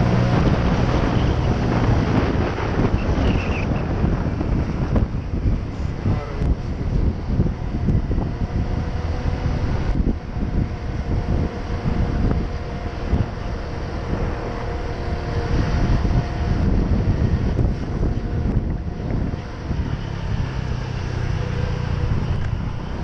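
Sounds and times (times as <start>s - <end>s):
wind buffeting on microphone: 0.0s - 23.0s
scooter engine running: 3.8s - 23.0s.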